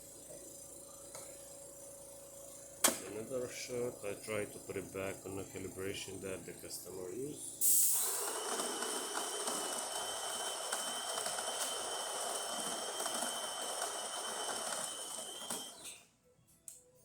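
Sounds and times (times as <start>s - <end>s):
espresso machine whirring: 0.0s - 16.0s.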